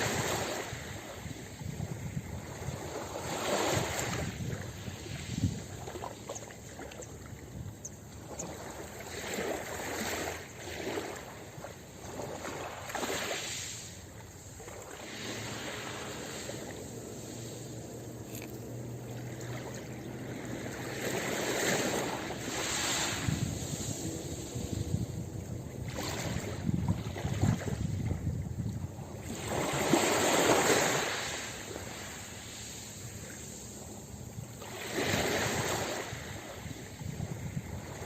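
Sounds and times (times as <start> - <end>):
ocean waves breaking on beach: 0.0 - 38.0.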